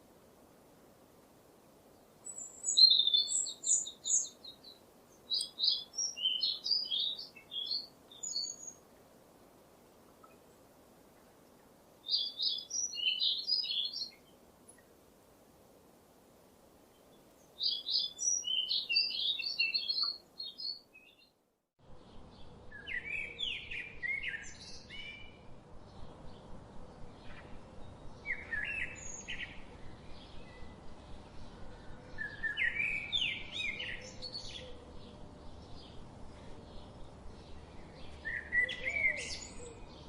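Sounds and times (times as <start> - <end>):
faint background hiss: 0.0 - 40.0
songbirds singing: 1.6 - 15.0, 16.9 - 40.0.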